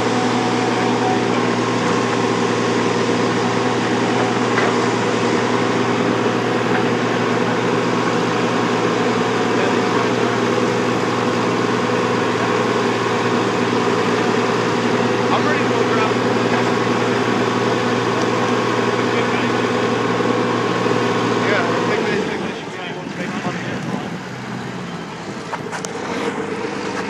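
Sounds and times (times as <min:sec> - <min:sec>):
machine engine droning: 0:00.0 - 0:27.0.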